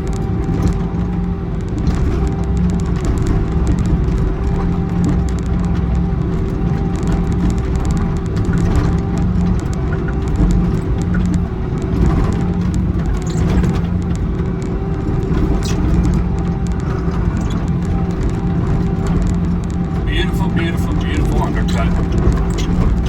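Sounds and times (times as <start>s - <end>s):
excavator diesel engine running: 3.6s - 23.0s.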